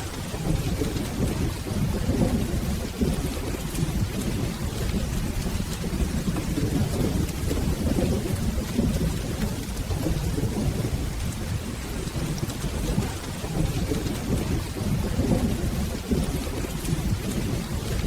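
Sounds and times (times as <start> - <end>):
rolling thunder rumble: 0.0 - 18.0
steady rain: 0.0 - 18.0.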